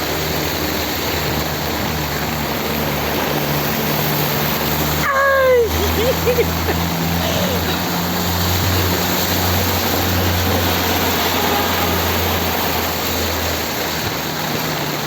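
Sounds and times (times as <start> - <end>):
heavy rain rushing: 0.0 - 15.0.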